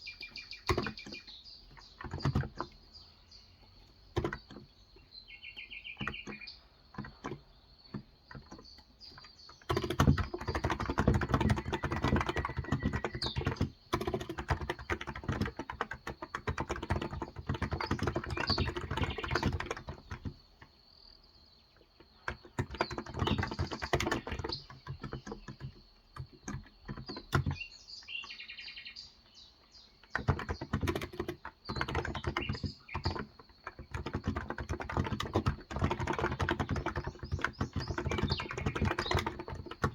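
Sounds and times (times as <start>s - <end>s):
keyboard typing: 0.0s - 20.7s, 22.0s - 27.7s, 30.0s - 39.9s
bird chirping: 0.0s - 39.9s.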